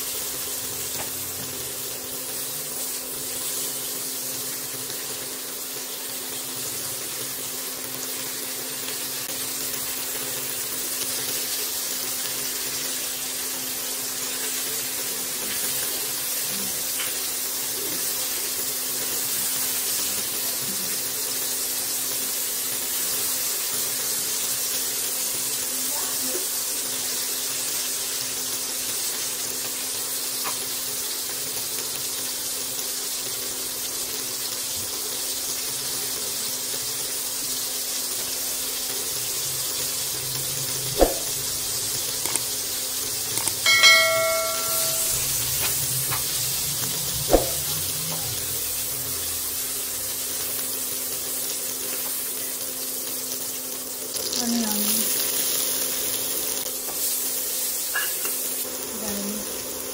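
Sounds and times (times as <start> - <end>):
sausage sizzling in oil: 0.0 - 59.9.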